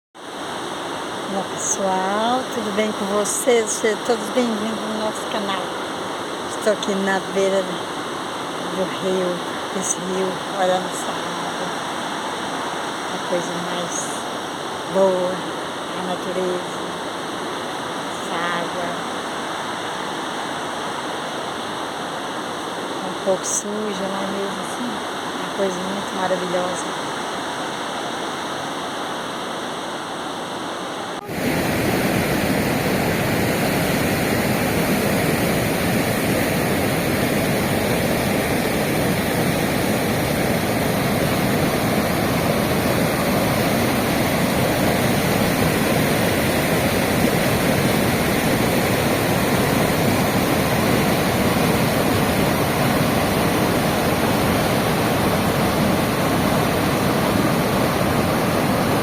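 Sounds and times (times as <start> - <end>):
river water rushing: 0.2 - 59.0.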